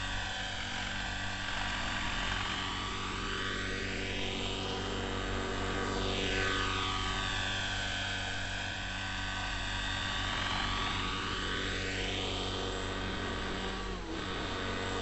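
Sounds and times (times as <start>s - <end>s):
model helicopter engine and rotors: 0.0s - 15.0s.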